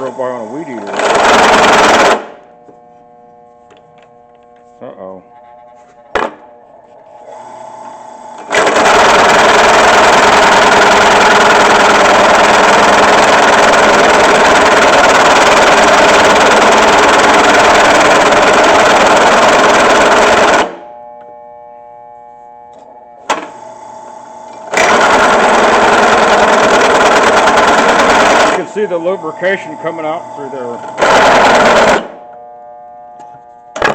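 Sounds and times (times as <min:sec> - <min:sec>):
drill press motor humming: 0:00.0 - 0:04.6, 0:05.3 - 0:33.9.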